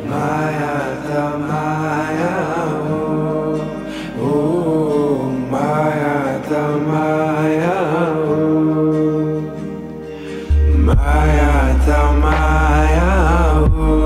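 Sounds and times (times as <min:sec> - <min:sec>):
song with sung vocals: 0:00.0 - 0:14.0.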